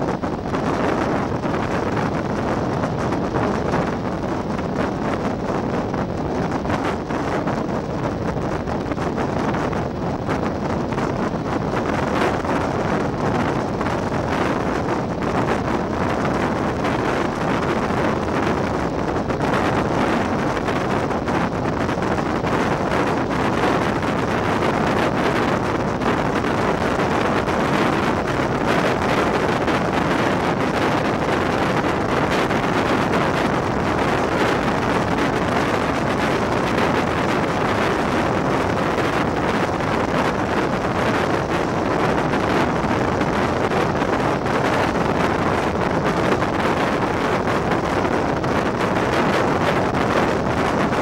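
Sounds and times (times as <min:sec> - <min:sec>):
train running at speed: 0:00.0 - 0:51.0
wind on microphone: 0:00.0 - 0:51.0.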